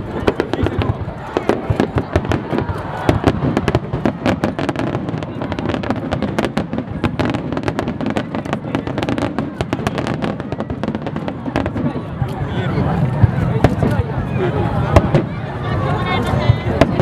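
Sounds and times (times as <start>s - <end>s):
firework shells crackling: 0.0s - 14.1s.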